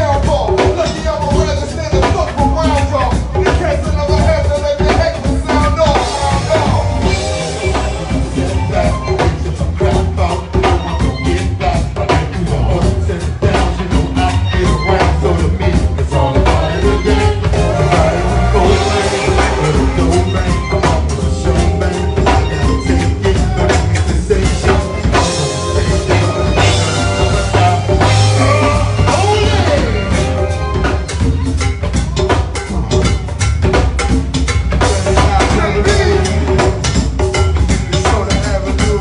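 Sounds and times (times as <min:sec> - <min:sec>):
bass line: 0:00.0 - 0:39.0
drum kit and percussion groove: 0:00.0 - 0:39.0
live band playing: 0:00.0 - 0:39.0.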